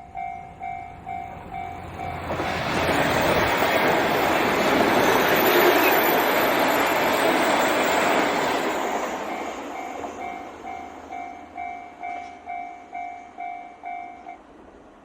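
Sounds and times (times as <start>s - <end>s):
crossing warning bell ringing: 0.0s - 14.6s
diesel train passing: 0.0s - 15.0s.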